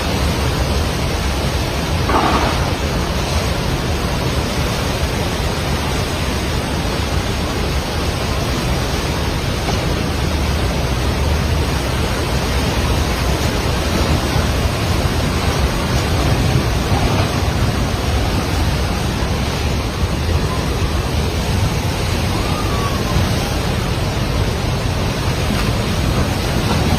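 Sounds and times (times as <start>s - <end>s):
deep rumble of water: 0.0s - 26.9s
river rushing in flood: 0.0s - 26.9s.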